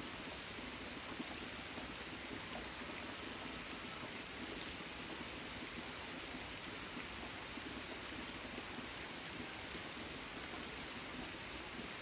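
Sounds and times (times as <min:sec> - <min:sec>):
rain falling on leaves: 0:00.0 - 0:12.0.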